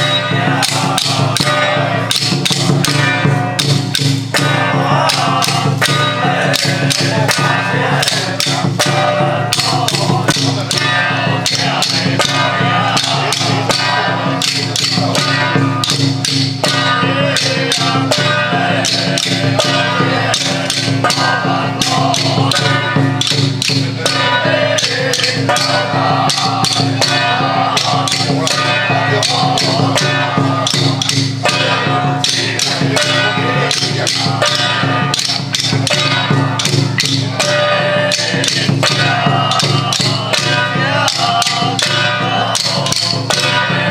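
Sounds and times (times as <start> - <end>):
pitched melody: 0.0 - 43.9
rapid percussion strikes: 0.0 - 43.9.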